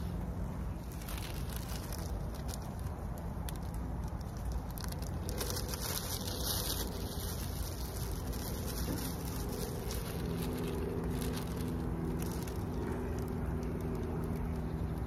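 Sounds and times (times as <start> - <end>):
wood fire crackling and popping: 1.1 - 15.0.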